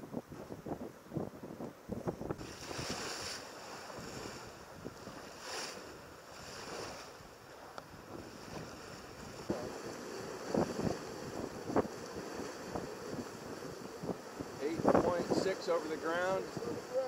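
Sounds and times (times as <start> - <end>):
wind buffeting microphone: 0.0 - 17.0
water rushing along boat hull: 0.1 - 17.0.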